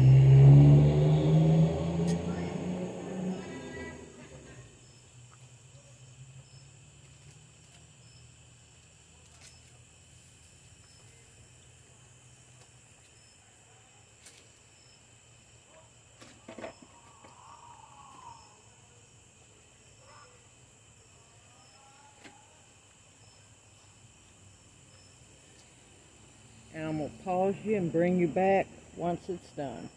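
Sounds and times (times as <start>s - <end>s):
crickets and insects chirping: 0.0s - 29.9s.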